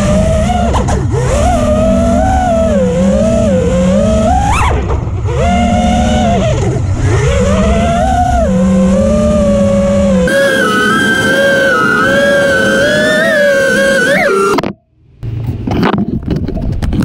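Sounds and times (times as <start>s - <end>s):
quadcopter motors whining: 0.0s - 14.8s.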